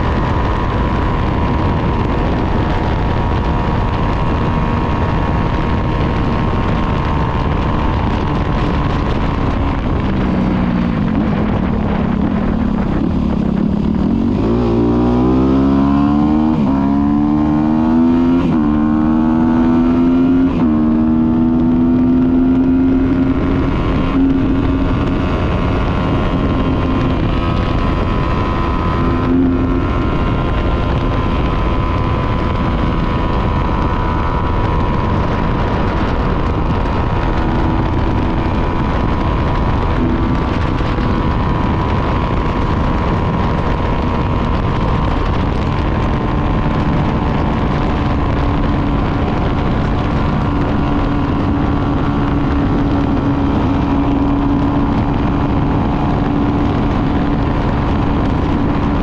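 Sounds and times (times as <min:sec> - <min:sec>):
motorcycle engine shifting gears: 0:00.0 - 0:59.0
wind rush on microphone: 0:00.0 - 0:59.0.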